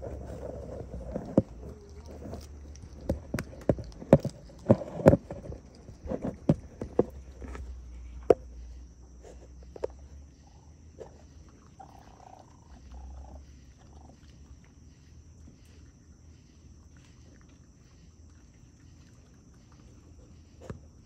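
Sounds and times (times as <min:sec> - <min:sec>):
raccoon feeding: 0:00.0 - 0:21.0
steady high hum: 0:00.0 - 0:21.0.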